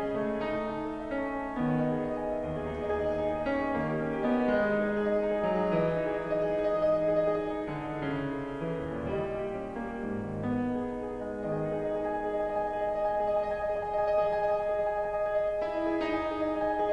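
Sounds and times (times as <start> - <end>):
piano music: 0.0 - 16.9.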